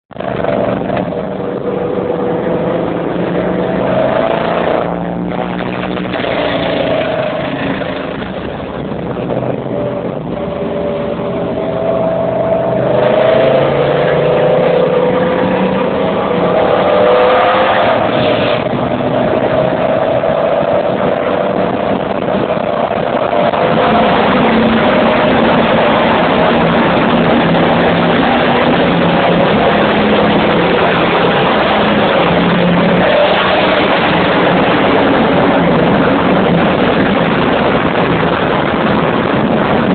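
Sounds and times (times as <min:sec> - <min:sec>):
car exhaust engine note: 0:00.1 - 0:39.9
road and wind noise: 0:00.1 - 0:39.9.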